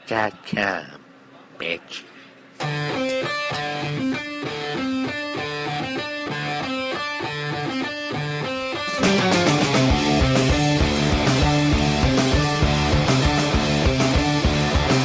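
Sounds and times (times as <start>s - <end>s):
electric guitar riff: 2.6s - 15.0s
rock band with drums: 2.6s - 15.0s.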